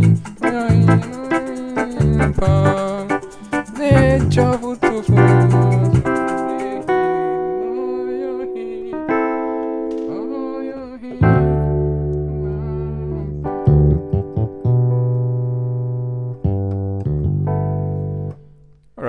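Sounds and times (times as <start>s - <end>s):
low piano bass line: 0.0s - 18.5s
electric piano chords: 0.0s - 18.6s.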